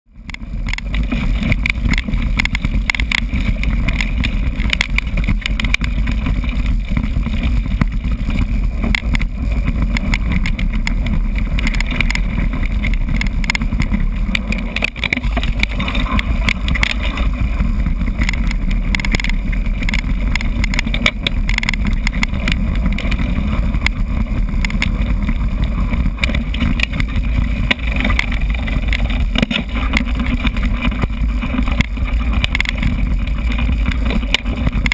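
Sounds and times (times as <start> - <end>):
bike rattling and knocking: 0.1 - 34.9
wind rumble on microphone: 0.1 - 34.9.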